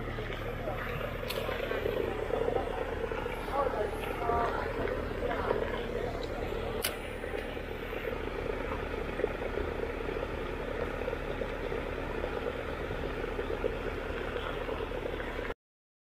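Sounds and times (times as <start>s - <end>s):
paddlewheel aerator churning water: 0.0s - 15.6s.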